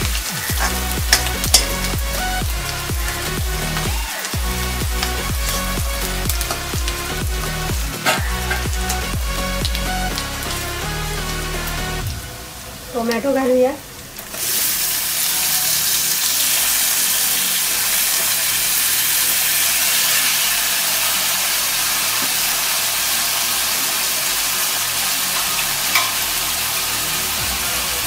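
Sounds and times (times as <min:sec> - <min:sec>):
tomatoes sizzling in hot oil: 0:00.0 - 0:28.0.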